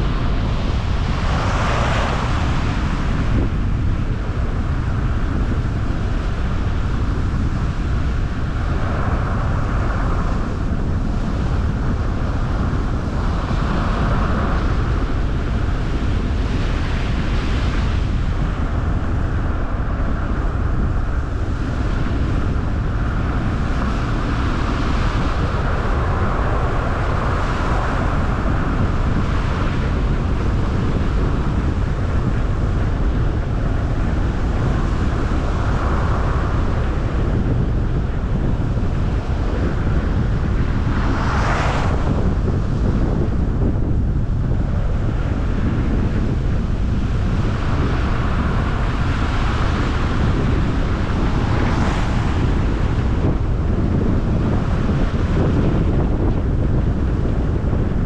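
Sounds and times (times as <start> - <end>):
car road noise: 0.0 - 58.0.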